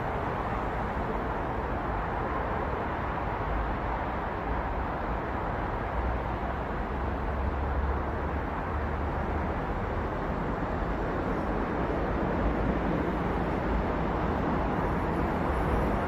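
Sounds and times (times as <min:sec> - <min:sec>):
city road traffic: 0:00.0 - 0:16.0.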